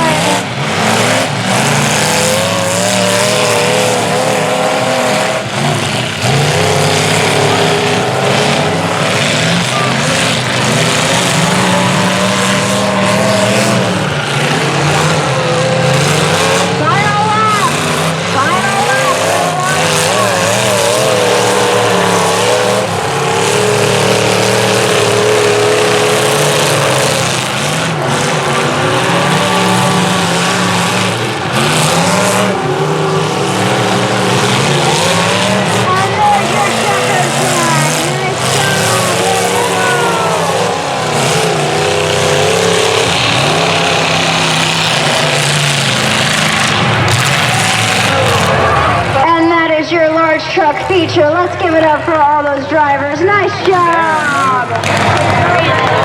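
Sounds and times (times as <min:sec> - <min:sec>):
race truck engines revving: 0:00.0 - 0:56.0.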